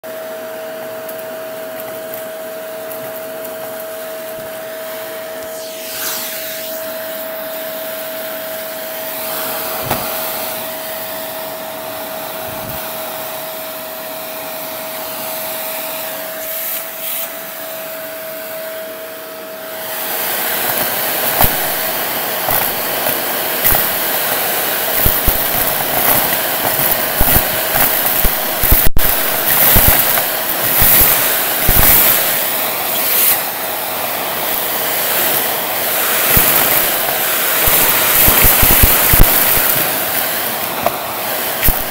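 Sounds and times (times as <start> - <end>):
vacuum cleaner whine: 0.0 - 41.9.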